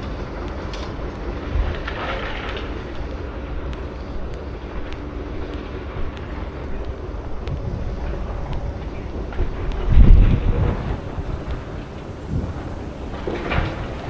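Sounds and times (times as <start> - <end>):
distant engine hum: 0.0 - 14.0
light ticks: 0.0 - 14.0
wind buffeting microphone: 0.0 - 14.0.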